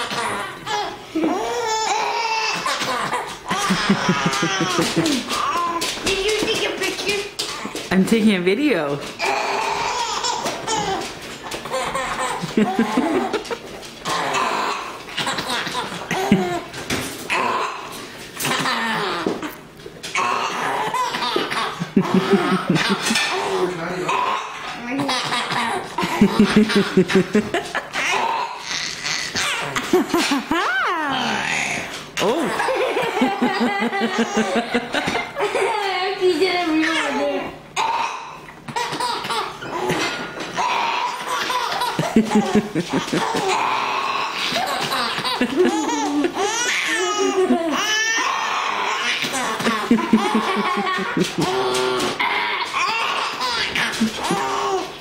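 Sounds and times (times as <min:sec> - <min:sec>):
baby belly laughing: 0:00.0 - 0:06.9, 0:09.2 - 0:11.0, 0:11.6 - 0:16.7, 0:20.2 - 0:30.8, 0:32.2 - 0:36.0, 0:37.8 - 0:55.0.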